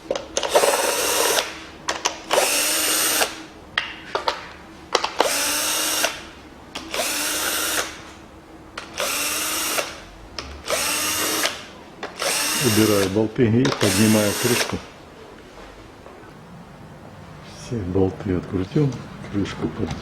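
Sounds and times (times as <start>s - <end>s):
power driver whining: 0.0s - 20.0s.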